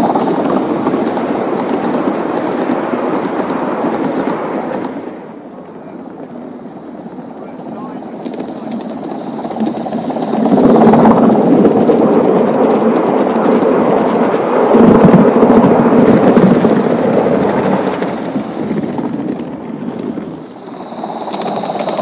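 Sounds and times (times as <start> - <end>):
model train wheels rumbling on rails: 0.0 - 22.0.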